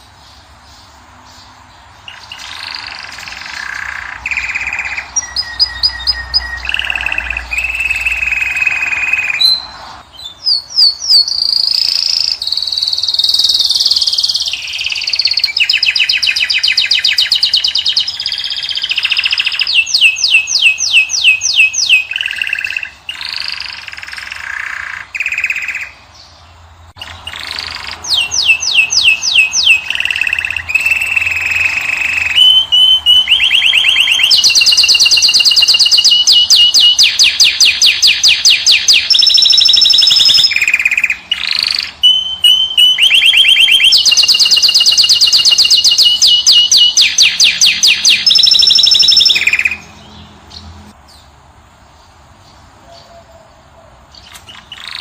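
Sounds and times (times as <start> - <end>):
songbirds trilling and whistling: 0.0 - 55.0.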